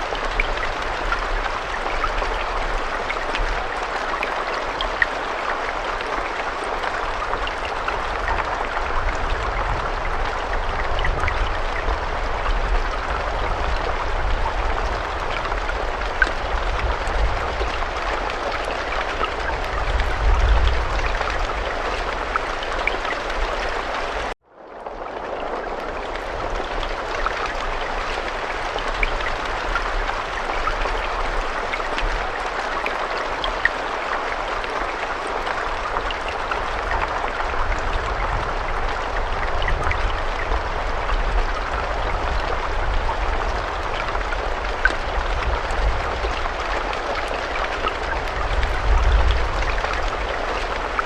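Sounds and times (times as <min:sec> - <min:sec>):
raindrops ticking: 0:00.0 - 0:51.0
steady rainfall hiss: 0:00.0 - 0:51.0.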